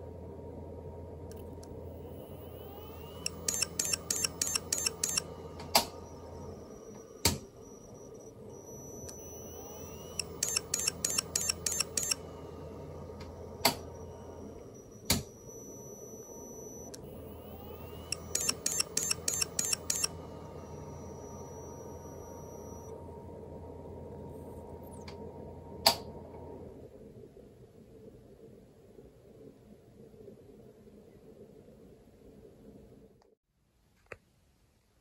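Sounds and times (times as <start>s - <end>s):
low motor hum: 0.0s - 28.6s
hard drive whine: 0.0s - 33.3s.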